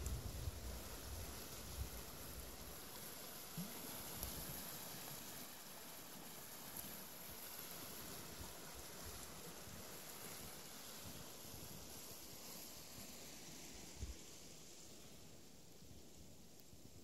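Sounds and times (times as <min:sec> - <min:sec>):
stream rushing over rocks: 0:00.0 - 0:15.7.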